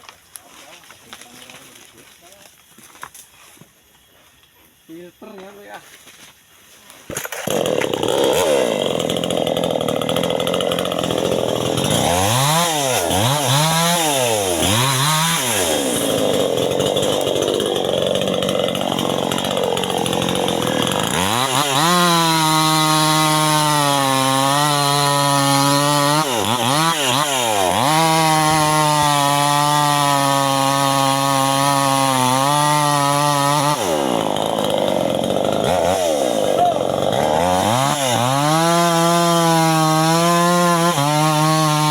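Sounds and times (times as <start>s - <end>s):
chainsaw cutting wood: 7.0s - 41.9s.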